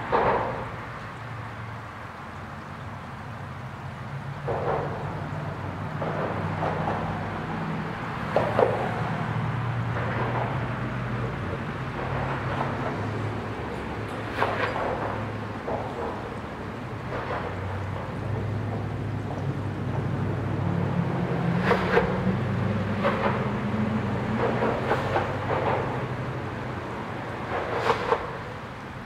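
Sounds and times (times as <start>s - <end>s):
traffic rumbling over bridge: 0.0s - 29.0s.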